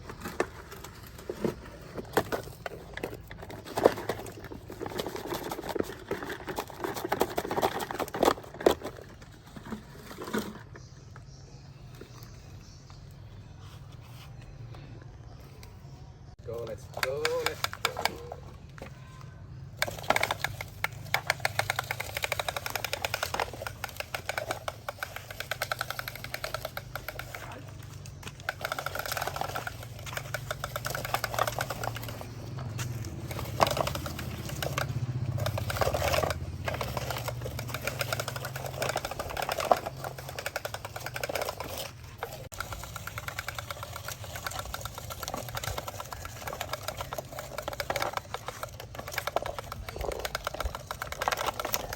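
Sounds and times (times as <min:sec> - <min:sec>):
toy electric motors whirring: 0:00.0 - 0:11.3, 0:16.5 - 0:51.9.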